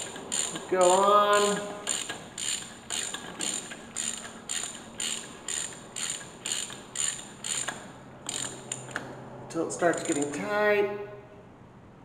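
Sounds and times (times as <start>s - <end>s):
hand ratchet clicking: 0.0s - 9.1s, 9.8s - 10.5s.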